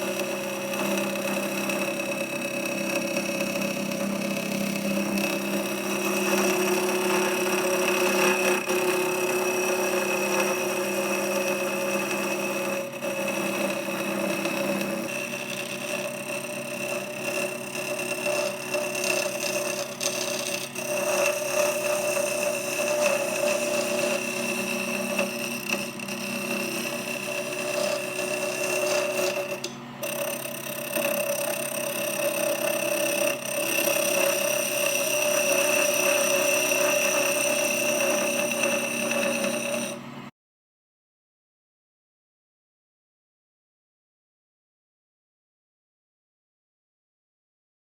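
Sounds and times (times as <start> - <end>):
tool cutting wood hiss: 0.0 - 40.0
lathe motor whine: 0.0 - 40.3.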